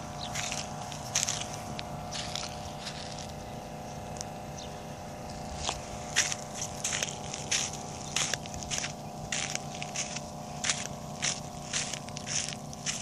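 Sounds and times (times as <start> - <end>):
footsteps crunching on gravel: 0.0 - 13.0
steady low hum: 0.0 - 13.0.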